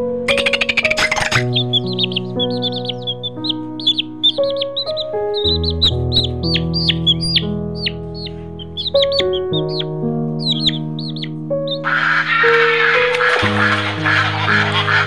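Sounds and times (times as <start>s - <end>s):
slow chord music: 0.0s - 15.0s
chicks peeping: 0.3s - 15.0s.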